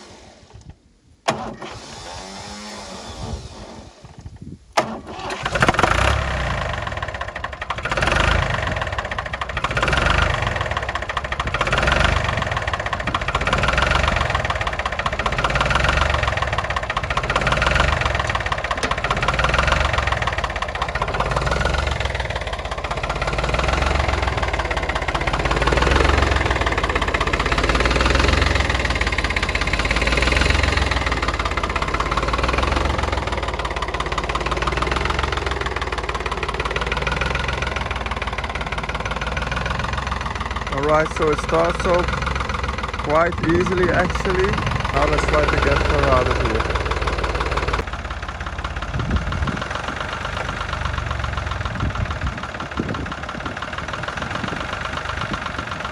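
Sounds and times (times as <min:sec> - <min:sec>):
tractor diesel engine idling: 0:00.0 - 0:55.9.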